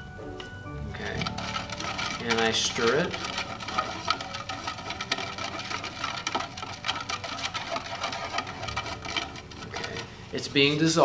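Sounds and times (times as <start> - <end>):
rod clicking against foam cup: 1.0 - 10.1.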